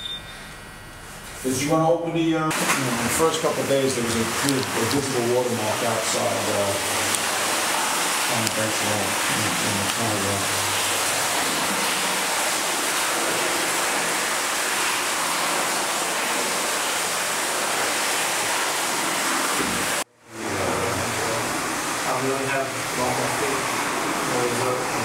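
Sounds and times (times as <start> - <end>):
loud rushing machinery noise: 2.5 - 25.0.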